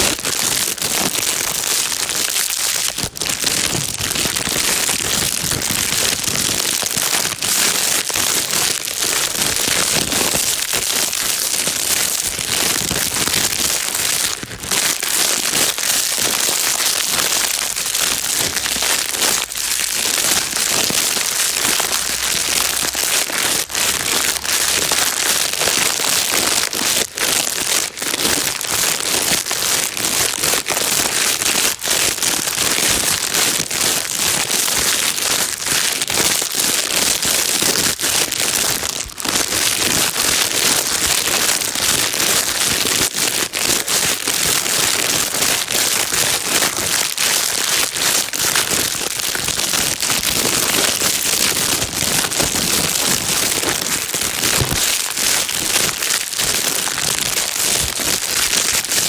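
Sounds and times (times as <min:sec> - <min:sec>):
plastic bag crinkling: 0:00.0 - 0:59.0.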